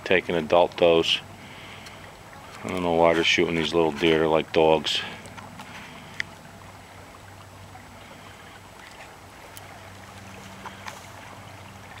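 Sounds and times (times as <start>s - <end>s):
brook water running: 0.0s - 12.0s
low steady hum: 0.0s - 12.0s.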